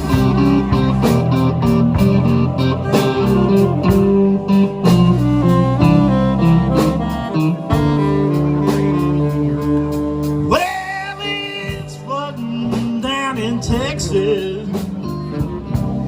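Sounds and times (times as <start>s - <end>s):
bass: 0.0s - 16.0s
drums: 0.0s - 16.0s
lead guitar: 0.0s - 16.0s.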